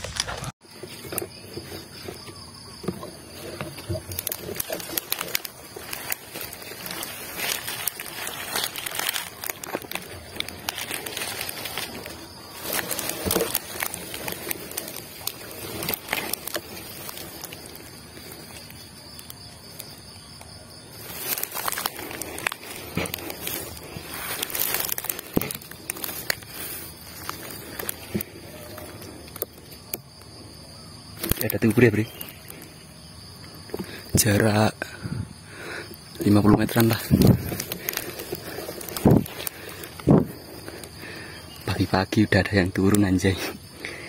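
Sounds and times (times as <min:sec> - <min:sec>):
rustling and crackling: 0:00.0 - 0:44.0.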